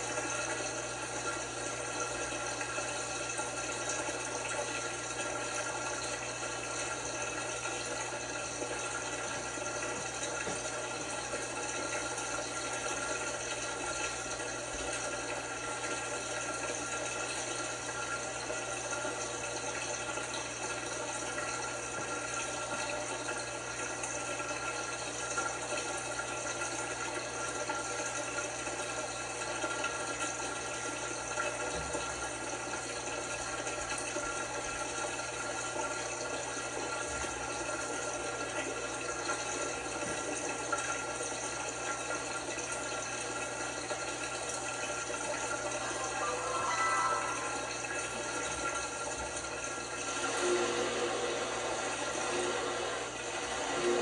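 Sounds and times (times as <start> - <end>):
water rushing through washing machine: 0.0 - 54.0.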